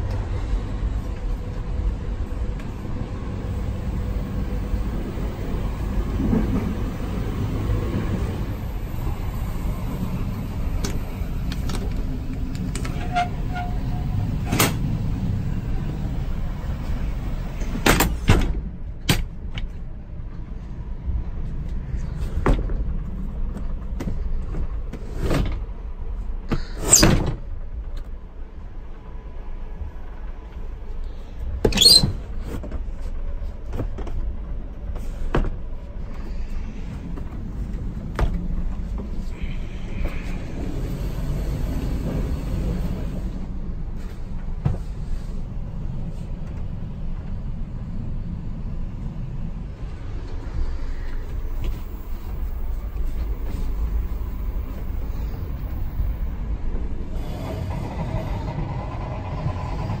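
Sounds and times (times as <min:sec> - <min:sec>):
train carriage rumbling on rails: 0:00.0 - 1:00.0.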